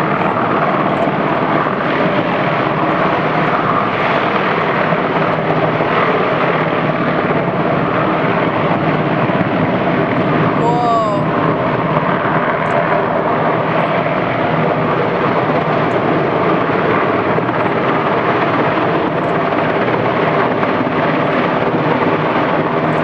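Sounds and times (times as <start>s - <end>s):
helicopter rotor and engine: 0.0s - 23.0s.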